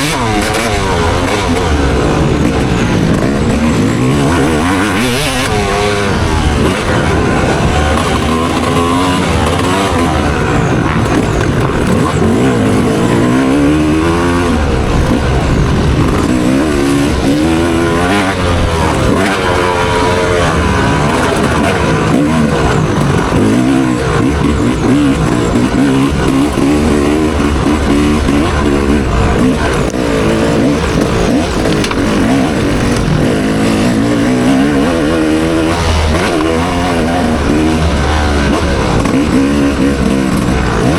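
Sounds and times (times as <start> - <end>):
dirt bike engine revving: 0.0 - 40.9
track noise: 0.0 - 40.9
wind: 0.0 - 40.9.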